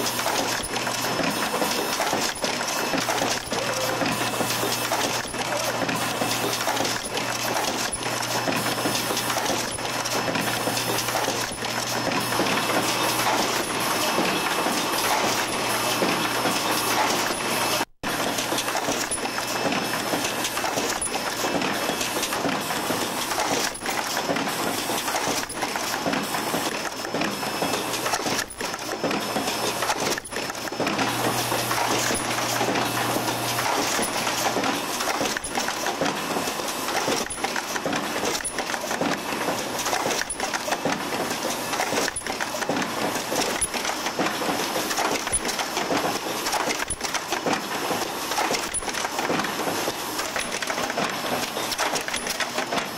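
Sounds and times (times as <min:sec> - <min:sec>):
assembly machinery running: 0:00.0 - 0:52.9
pneumatic tooling clicks and clacks: 0:00.0 - 0:52.9.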